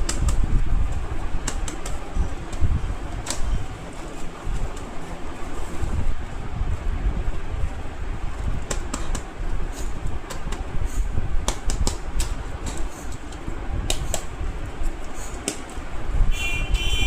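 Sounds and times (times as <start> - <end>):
steady low rumble: 0.0 - 16.8.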